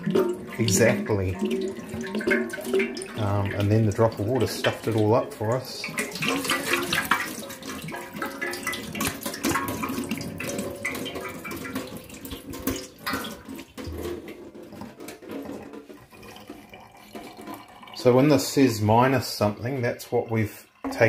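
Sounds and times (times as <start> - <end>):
water splashing into metal sink: 0.0 - 21.0.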